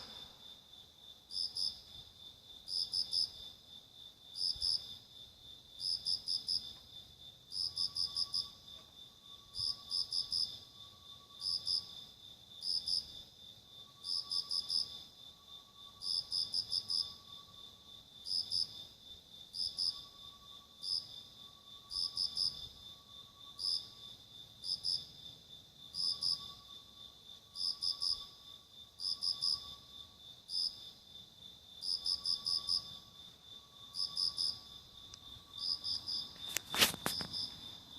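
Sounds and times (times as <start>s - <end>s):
crickets chirping in bursts: 0.0s - 37.9s
high-pitched insect trill: 0.0s - 37.9s.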